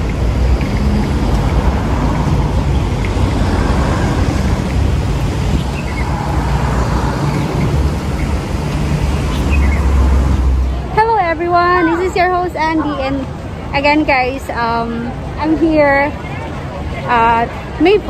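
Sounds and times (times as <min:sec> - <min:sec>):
low urban rumble: 0:00.0 - 0:18.0.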